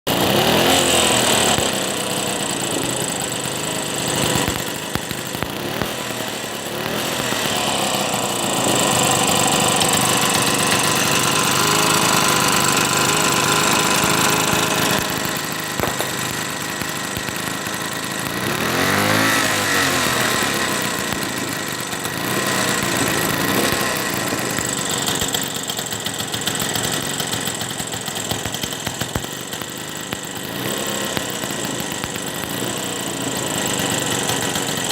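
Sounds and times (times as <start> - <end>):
small engine running and revving: 0.0 - 34.9.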